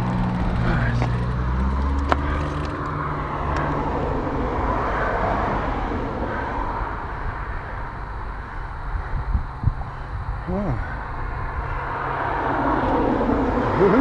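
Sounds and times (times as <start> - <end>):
passing car tyres: 0.0 - 14.0
wind and road noise: 0.0 - 14.0.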